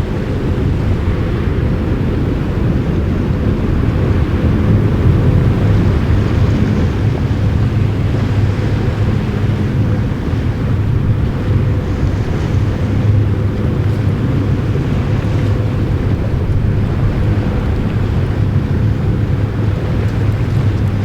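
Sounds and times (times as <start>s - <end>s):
ship engine drone: 0.0s - 21.0s
wind buffeting microphone: 0.0s - 21.0s.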